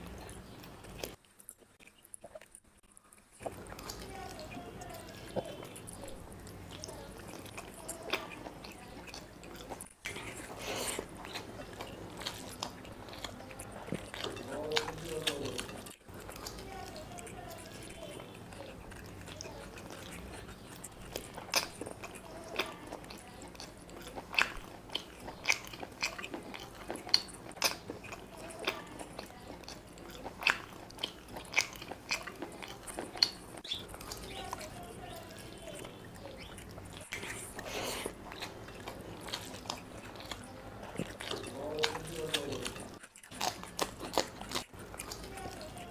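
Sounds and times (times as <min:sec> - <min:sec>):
person chewing and lip-smacking: 0:00.0 - 0:45.9.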